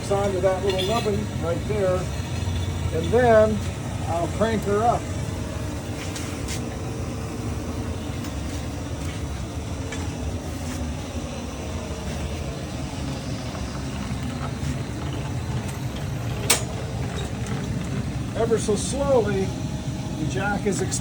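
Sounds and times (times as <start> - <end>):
furnace burner droning: 0.0 - 21.0
steady hum: 0.0 - 21.0.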